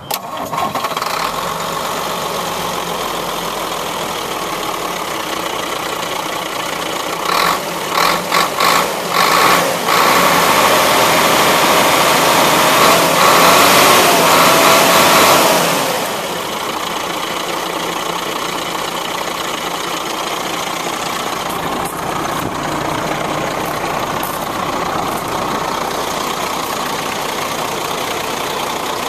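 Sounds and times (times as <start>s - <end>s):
truck engine idling and revving: 0.0s - 29.0s.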